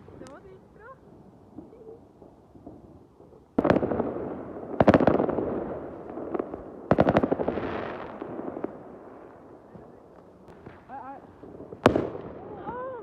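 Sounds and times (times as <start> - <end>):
fireworks crackling: 0.0 - 13.0
fireworks bang: 1.5 - 13.0.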